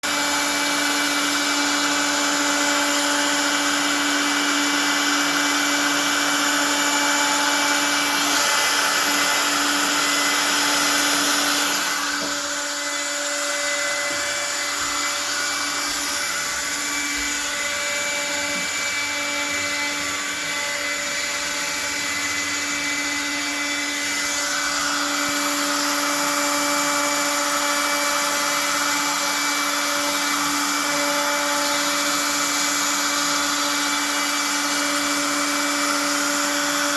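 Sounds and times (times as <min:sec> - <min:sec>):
end mill cutting wood: 0:00.0 - 0:36.9
router spindle whining: 0:00.0 - 0:36.9.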